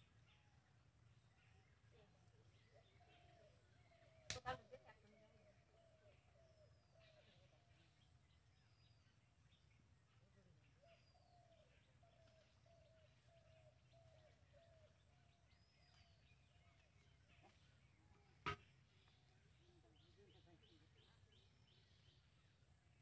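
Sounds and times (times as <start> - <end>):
bird calls: 1.2 - 23.0.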